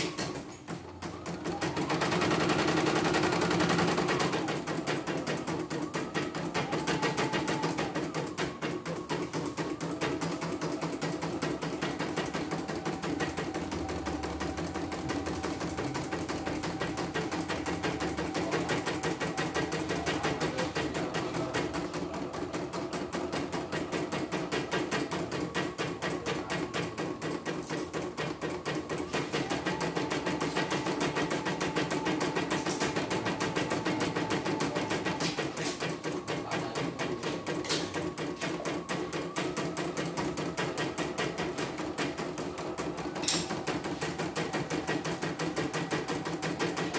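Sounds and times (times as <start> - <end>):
embroidery machine stitching: 0.0 - 46.9.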